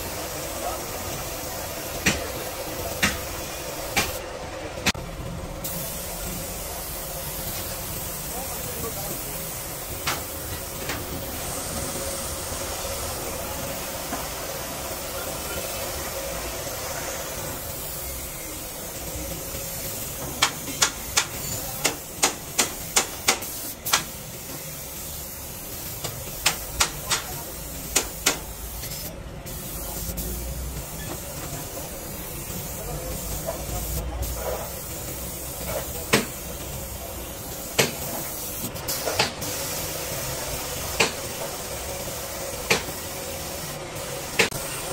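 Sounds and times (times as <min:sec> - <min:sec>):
spray gun hissing: 0:05.6 - 0:44.9.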